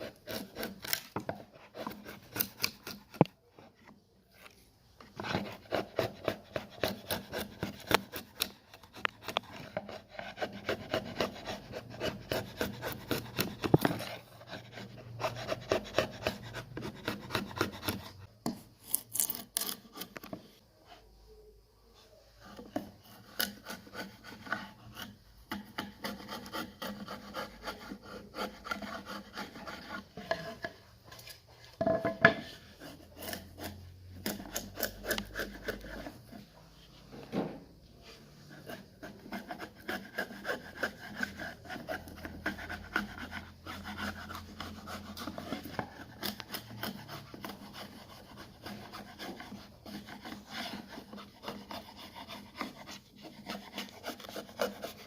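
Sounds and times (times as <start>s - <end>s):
rasp scraping wood: 0.0s - 3.9s, 5.0s - 20.5s, 22.4s - 37.0s, 38.0s - 55.0s.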